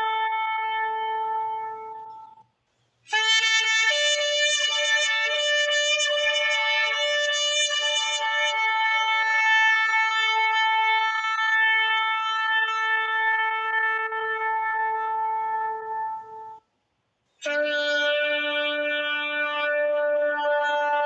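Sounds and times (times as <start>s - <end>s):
shofar blast: 0.0s - 2.4s, 3.1s - 16.6s, 17.4s - 21.0s.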